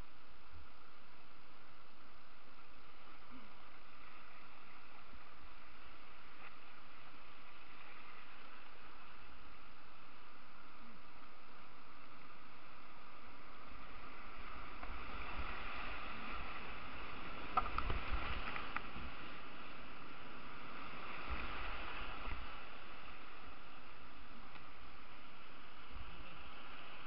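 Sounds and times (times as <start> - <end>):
boat and paddle splashing: 0.0 - 27.0
rushing whitewater: 0.0 - 27.0.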